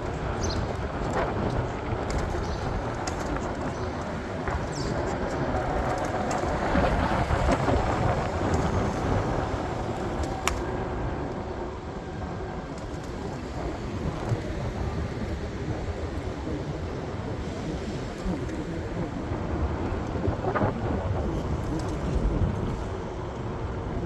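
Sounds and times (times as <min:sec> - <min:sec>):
train rumbling on tracks: 0:00.0 - 0:24.0.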